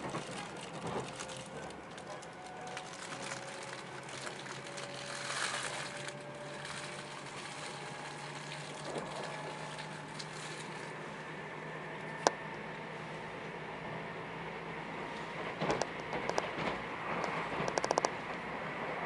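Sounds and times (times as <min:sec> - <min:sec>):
faint motor whine: 0:00.0 - 0:19.0
train wheels rumbling on rail: 0:00.0 - 0:19.0.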